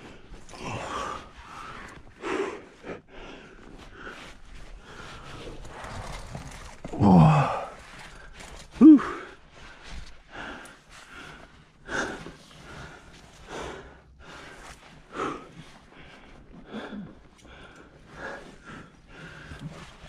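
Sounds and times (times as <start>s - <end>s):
person breathing hard: 0.0s - 5.6s, 7.1s - 20.0s.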